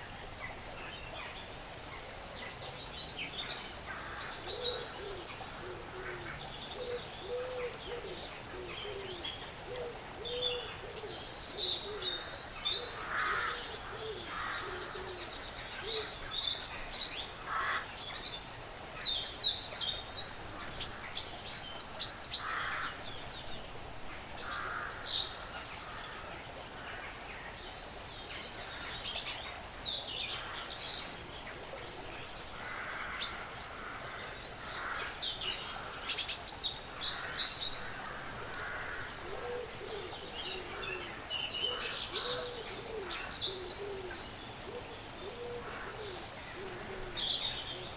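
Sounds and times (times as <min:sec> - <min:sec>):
faint steady hiss: 0:00.0 - 0:47.9.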